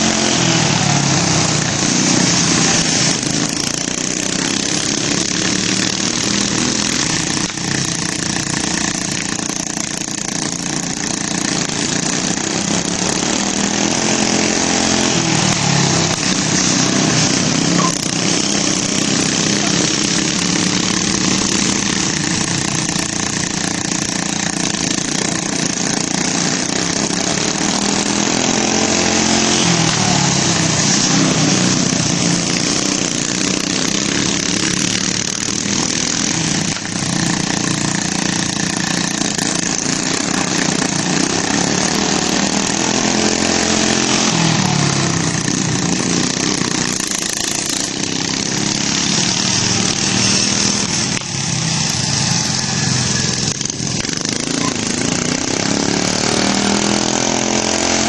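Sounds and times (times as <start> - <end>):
lawn tractor engines passing: 0.0 - 58.0.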